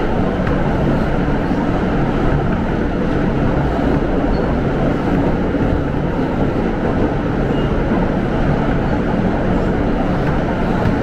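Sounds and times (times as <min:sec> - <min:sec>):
subway car rumbling through tunnel: 0:00.0 - 0:11.0.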